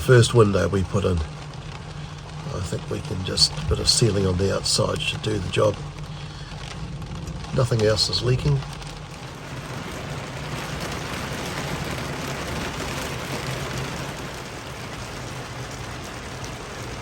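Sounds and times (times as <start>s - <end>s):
rain on a boat: 0.0s - 17.0s.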